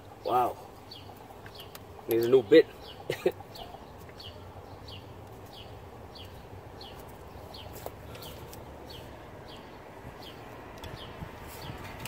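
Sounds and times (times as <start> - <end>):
bird chirping: 0.3 - 12.0.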